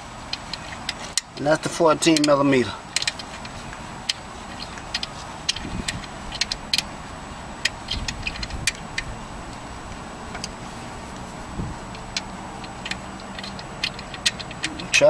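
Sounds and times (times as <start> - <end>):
wrench clicking: 0.3 - 10.6, 11.8 - 15.0.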